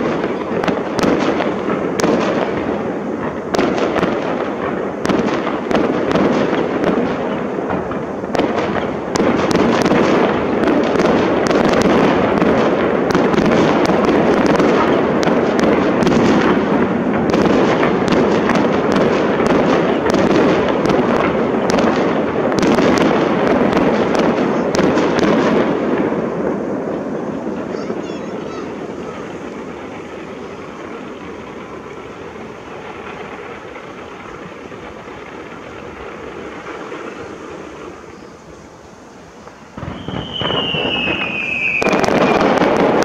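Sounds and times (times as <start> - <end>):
firework shells bursting: 0.0 - 43.0.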